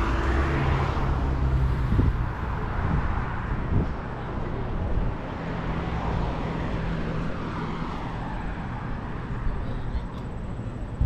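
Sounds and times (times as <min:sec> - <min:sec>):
passing cars and tyre noise: 0:00.0 - 0:11.0.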